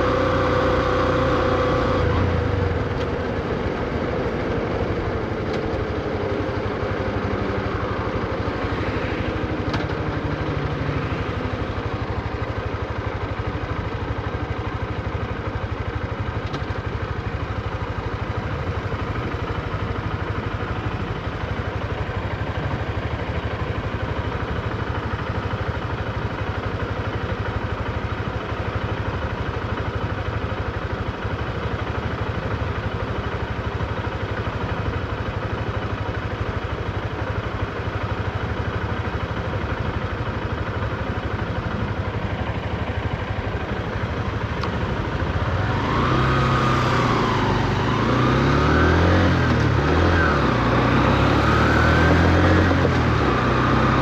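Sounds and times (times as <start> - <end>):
motorcycle engine running at low revs: 0.0 - 54.0.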